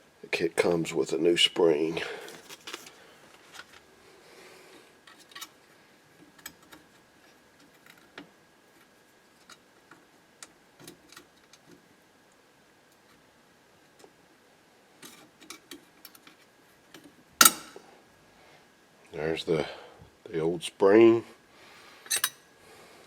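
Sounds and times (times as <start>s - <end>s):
faint high hum: 0.0s - 23.0s.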